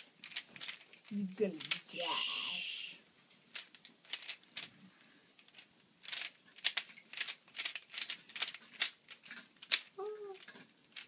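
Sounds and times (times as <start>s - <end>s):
rubik's cube layers clicking: 0.0s - 2.6s, 3.5s - 4.7s, 5.4s - 11.0s.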